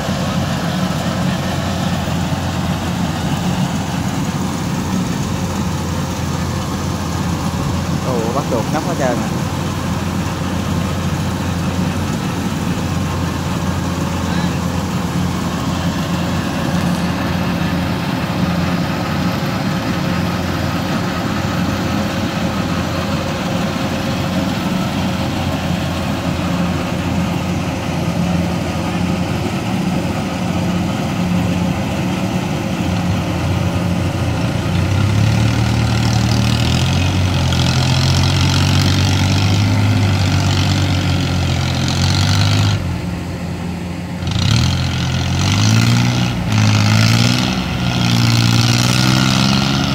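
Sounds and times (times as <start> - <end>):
diesel engine running and revving: 0.0 - 49.9.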